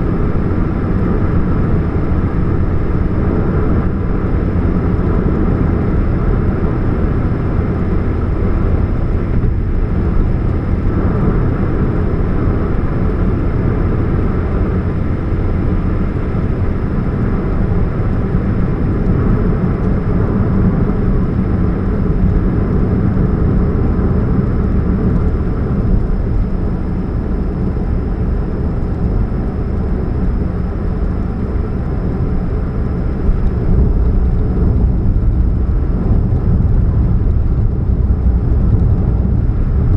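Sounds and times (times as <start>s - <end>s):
car engine droning hum: 0.0s - 39.9s.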